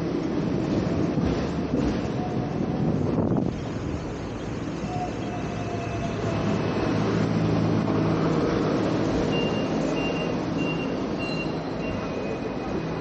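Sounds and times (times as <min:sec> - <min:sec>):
traffic: 0:00.0 - 0:13.0
tram rumbling along street: 0:00.0 - 0:13.0.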